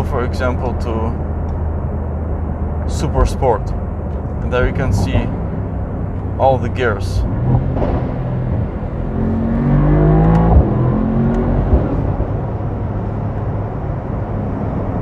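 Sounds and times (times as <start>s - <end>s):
car engine accelerating: 1.1s - 15.0s.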